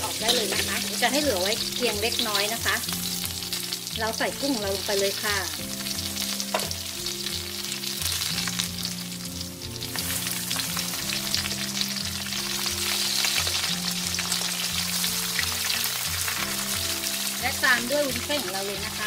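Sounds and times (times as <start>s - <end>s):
prawns sizzling in fat: 0.0s - 19.0s.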